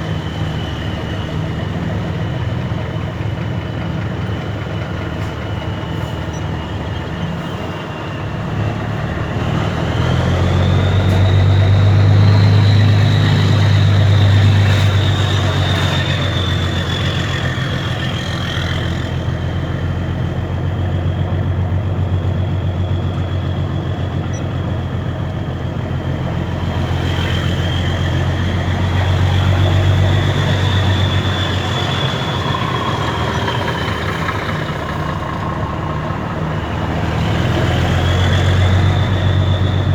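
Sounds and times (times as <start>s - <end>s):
diesel truck engine revving: 0.0s - 39.9s.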